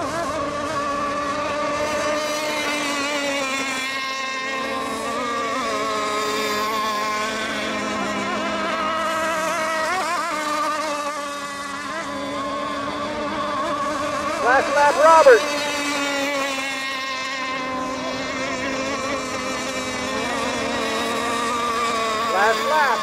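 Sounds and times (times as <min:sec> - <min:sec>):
high-pitched boat motors: 0:00.0 - 0:23.0.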